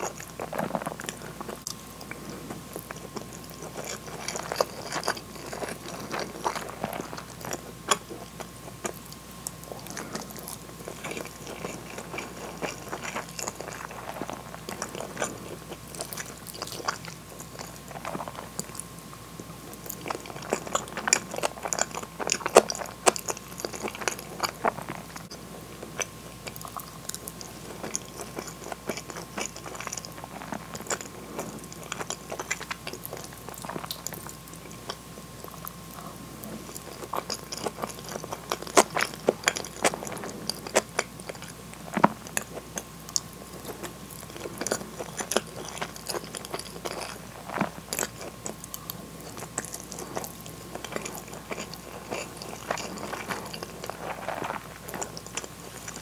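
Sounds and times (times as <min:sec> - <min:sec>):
close chewing: 0:00.0 - 0:56.0.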